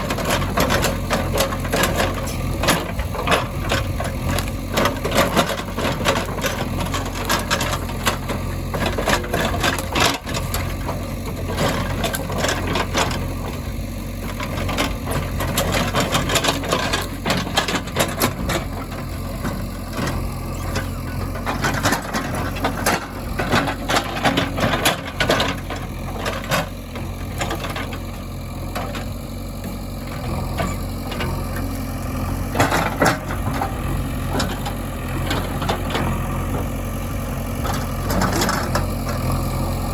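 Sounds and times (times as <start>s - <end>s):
diesel engines running: 0.0s - 39.9s
machinery clanks and rattles: 0.0s - 39.9s.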